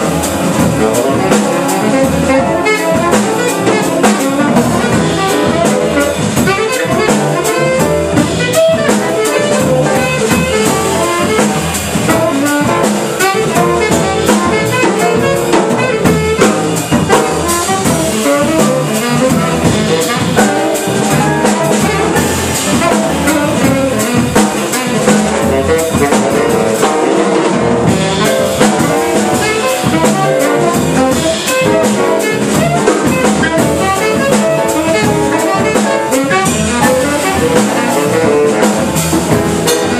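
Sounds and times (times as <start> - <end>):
double bass: 0.0 - 39.9
drum kit with cymbals: 0.0 - 39.9
piano: 0.0 - 39.9
saxophone: 0.0 - 39.9.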